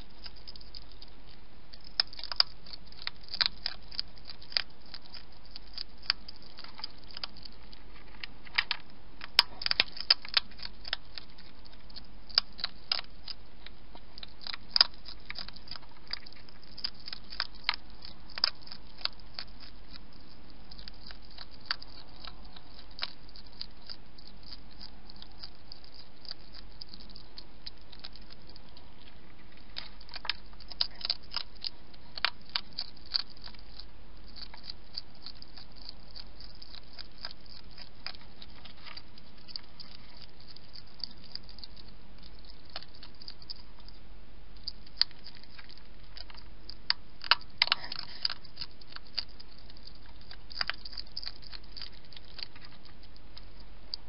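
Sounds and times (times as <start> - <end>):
hedgehog crunching food: 0.0 - 54.0
low electrical hum: 0.0 - 54.0.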